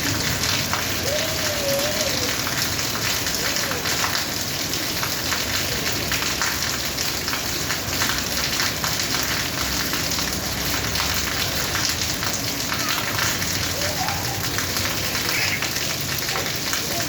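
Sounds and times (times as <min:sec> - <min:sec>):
rain on a rooftop: 0:00.0 - 0:17.0.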